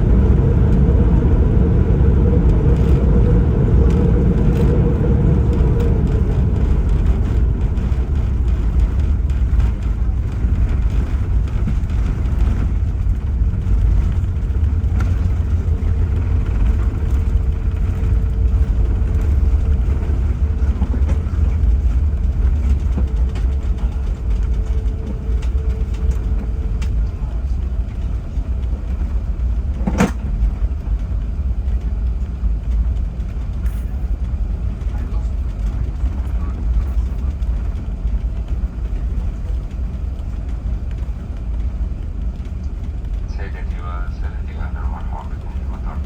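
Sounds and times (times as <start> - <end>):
airliner landing rumble: 0.0 - 46.0.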